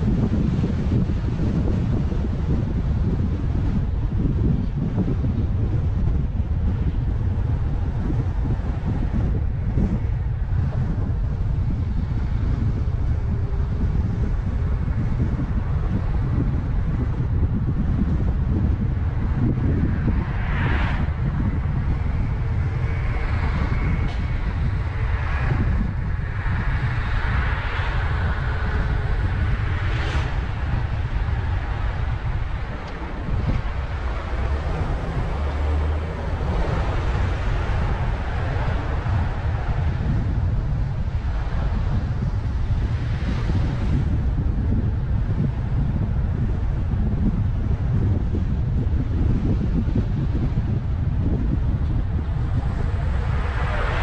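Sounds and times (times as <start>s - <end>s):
car engine and road rumble: 0.0s - 54.0s
wind on microphone: 0.0s - 54.0s.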